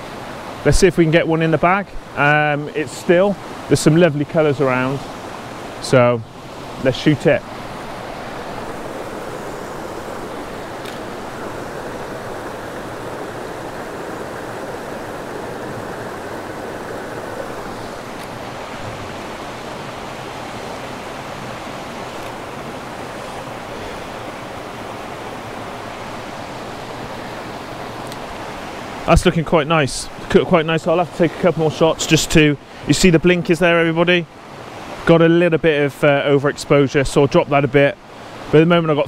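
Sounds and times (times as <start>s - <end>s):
river rushing over rocks: 0.0s - 39.0s.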